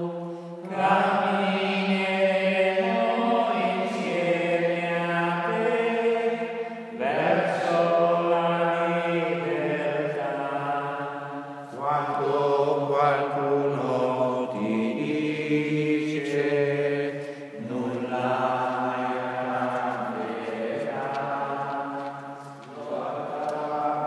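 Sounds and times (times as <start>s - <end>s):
man singing liturgical chant: 0.0s - 24.0s.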